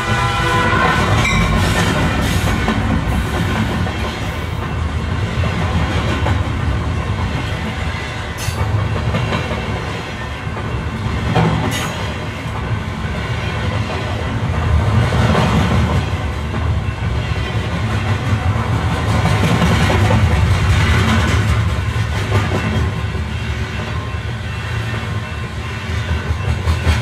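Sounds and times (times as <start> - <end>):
train rumbling on rails: 0.0 - 27.0.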